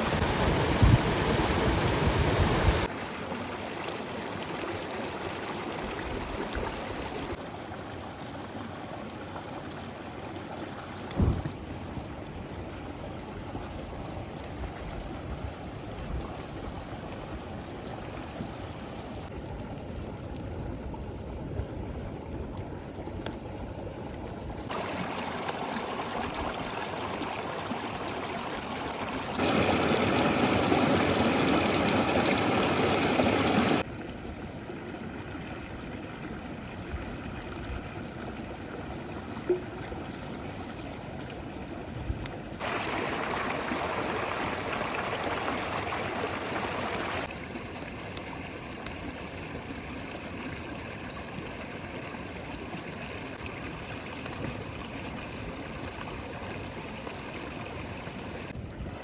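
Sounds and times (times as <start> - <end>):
river water flowing: 0.0 - 58.6.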